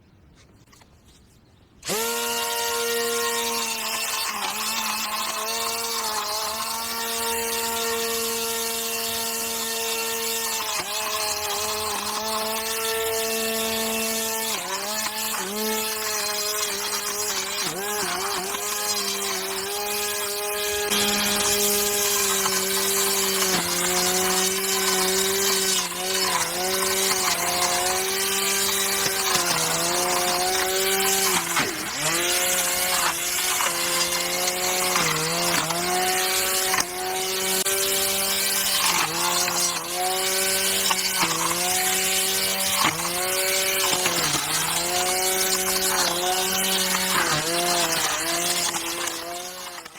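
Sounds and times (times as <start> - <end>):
electric motor whining: 1.8 - 49.9.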